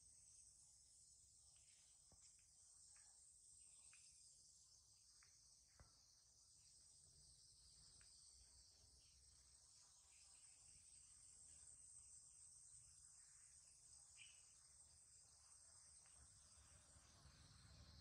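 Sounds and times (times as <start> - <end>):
faint insect chirring: 0.0 - 18.0.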